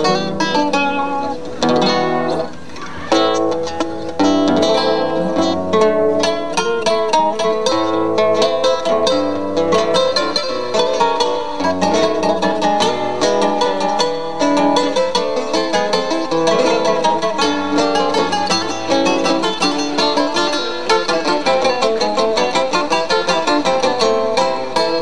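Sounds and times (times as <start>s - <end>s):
acoustic guitars playing a waltz: 0.0s - 25.0s.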